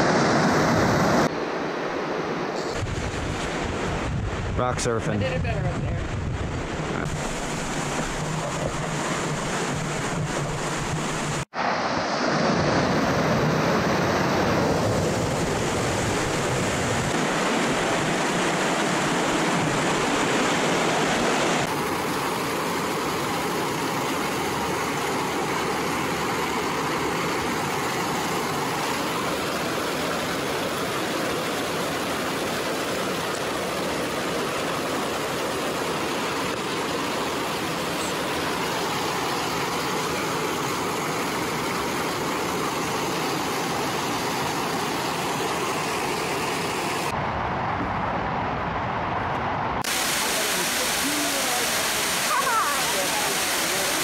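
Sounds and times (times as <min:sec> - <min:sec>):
creek rushing over boulders: 0:00.0 - 0:47.2, 0:49.8 - 0:54.0.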